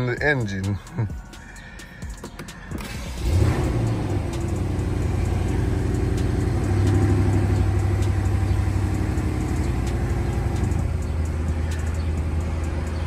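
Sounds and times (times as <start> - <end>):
car engine idling: 0.8 - 13.0.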